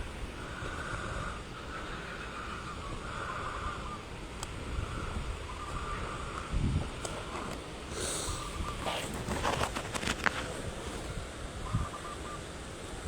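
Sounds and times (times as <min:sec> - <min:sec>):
faint pulsing hiss: 0:00.0 - 0:13.0
strong wind buffeting microphone: 0:00.0 - 0:13.0.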